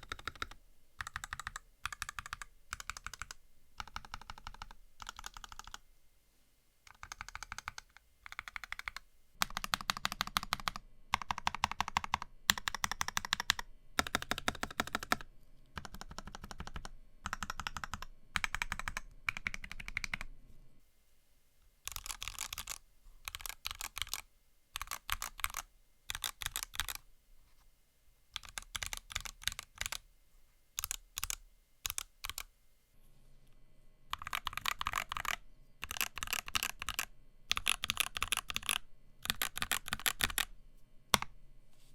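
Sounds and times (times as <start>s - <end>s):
mechanical keyboard typing: 0.0s - 5.8s, 6.9s - 20.3s, 21.9s - 27.0s, 28.4s - 30.0s, 30.8s - 32.5s, 34.1s - 40.5s.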